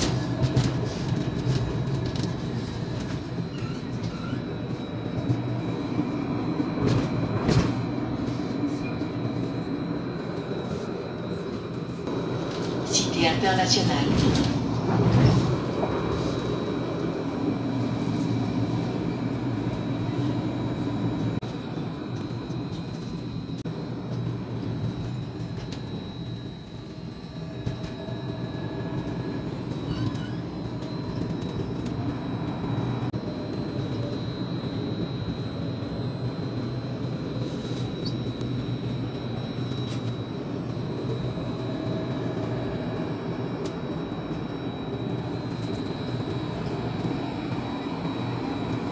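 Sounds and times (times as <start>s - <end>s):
tram motors and wheels rumbling: 0.0s - 48.9s.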